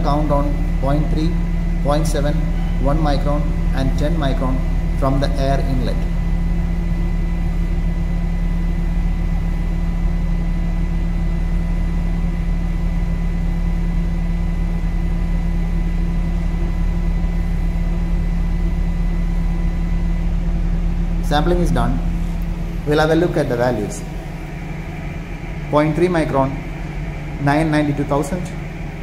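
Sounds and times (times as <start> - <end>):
air filter fan humming: 0.0 - 29.0.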